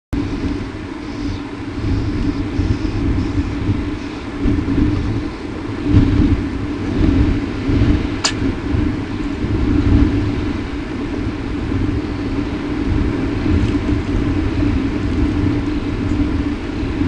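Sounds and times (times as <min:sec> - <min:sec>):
constant hum: 0:00.2 - 0:17.0
low background rumble: 0:00.2 - 0:17.0.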